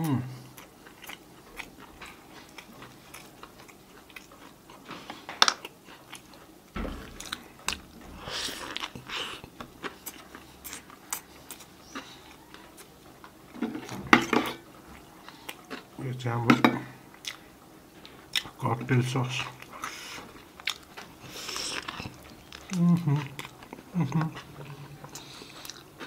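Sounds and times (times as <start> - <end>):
person chewing: 0.4 - 16.0, 17.1 - 18.6, 19.5 - 26.0.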